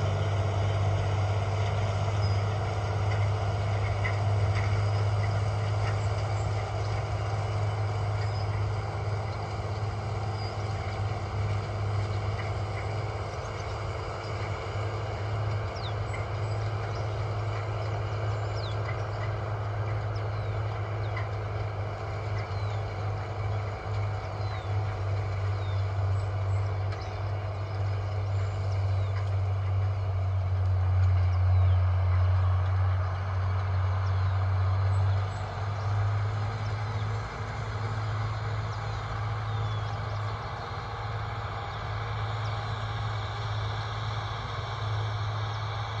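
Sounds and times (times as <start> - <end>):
tractor diesel engine droning: 0.0 - 46.0.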